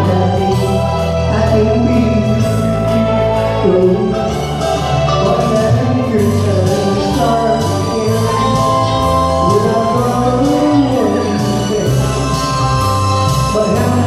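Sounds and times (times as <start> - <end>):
karaoke backing track: 0.0 - 14.0
man singing into a microphone: 0.0 - 14.0.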